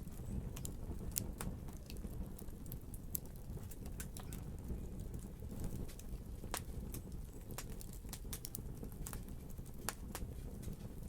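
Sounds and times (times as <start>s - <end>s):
fire flames rumbling: 0.0s - 11.0s
wood fire crackles and pops: 0.0s - 11.0s.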